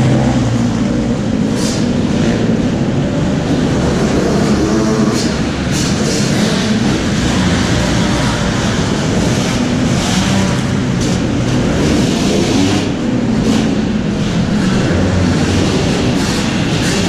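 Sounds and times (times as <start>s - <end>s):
dirt bike engine running: 0.0s - 17.0s
other dirt bikes: 0.0s - 17.0s.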